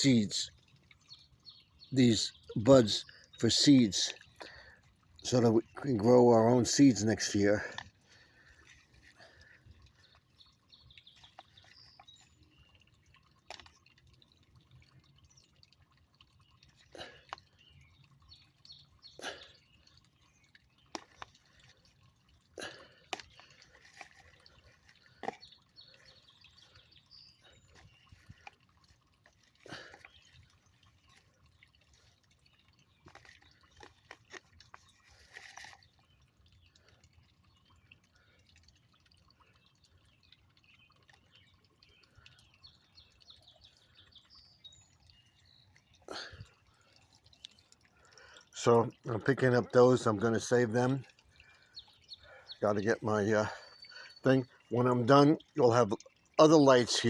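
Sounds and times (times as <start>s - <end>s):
drip-like clicks and taps: 0.0s - 57.0s.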